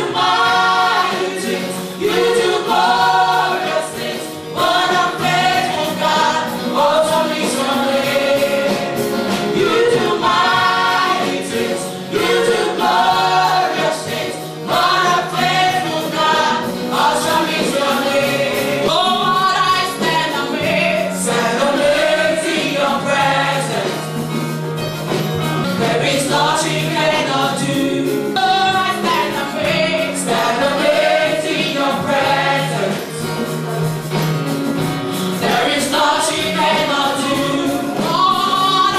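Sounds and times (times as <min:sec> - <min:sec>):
group singing gospel: 0:00.0 - 0:38.9
sustained instrumental backing: 0:00.0 - 0:38.9.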